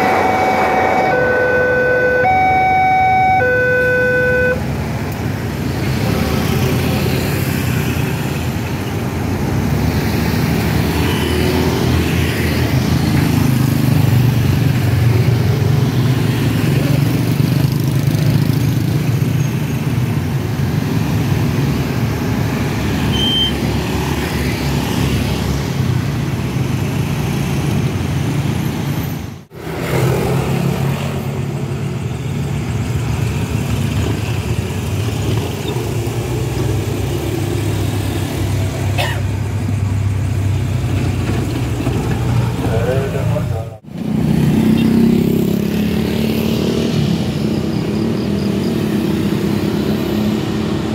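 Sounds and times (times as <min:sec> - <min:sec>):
motorcycles and cars driving past: 0:05.4 - 0:28.7, 0:29.5 - 0:50.9.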